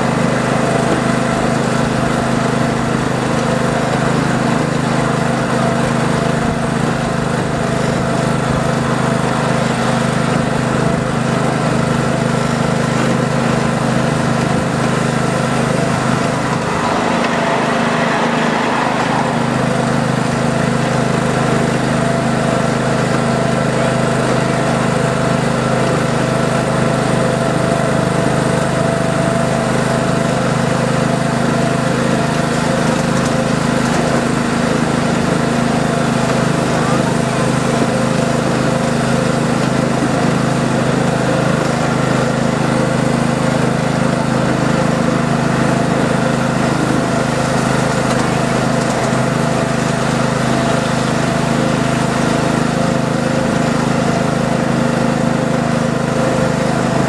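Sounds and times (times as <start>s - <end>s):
miniature train mechanical drone: 0.0s - 57.0s.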